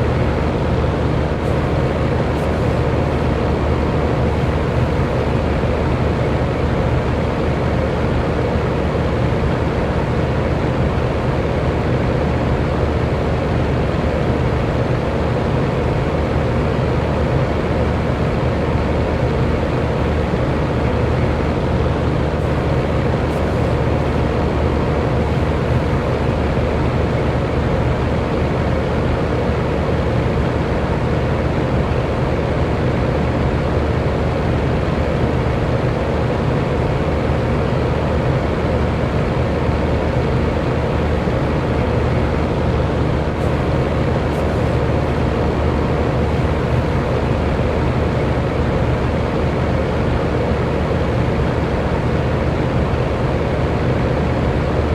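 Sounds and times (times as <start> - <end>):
electric fan running: 0.0 - 54.9.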